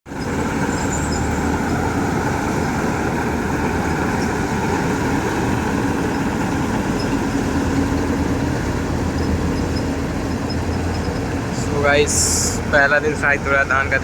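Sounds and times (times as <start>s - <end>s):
combine harvester mechanical drone: 0.0s - 14.0s.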